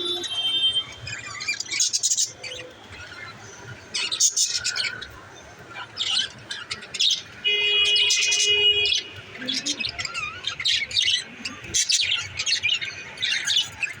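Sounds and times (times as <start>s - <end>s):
budgerigars chattering and chirping: 0.0s - 14.0s.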